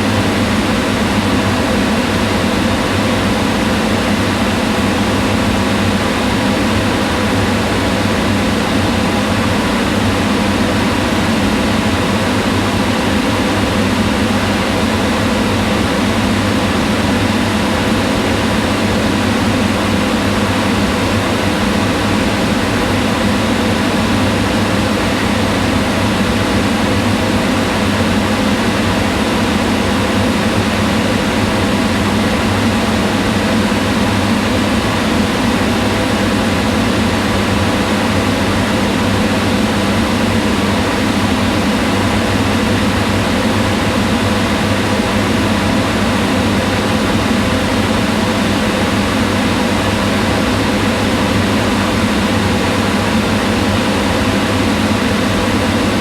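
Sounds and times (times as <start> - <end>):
range hood fan humming: 0.0 - 56.0.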